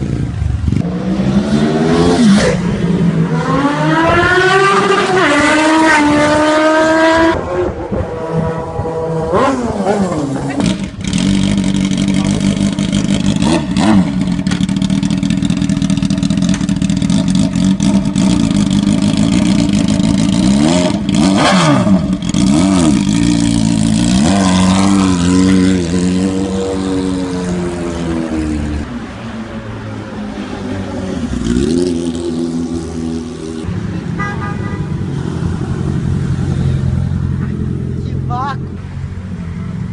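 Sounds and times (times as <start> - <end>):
motorcycle engine revving: 0.0 - 29.4, 30.4 - 39.9.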